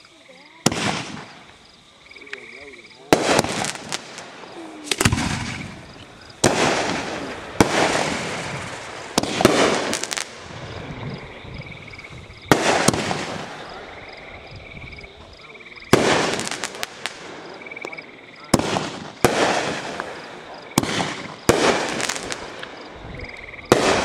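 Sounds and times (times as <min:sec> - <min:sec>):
fireworks bangs: 0:00.6 - 0:24.0.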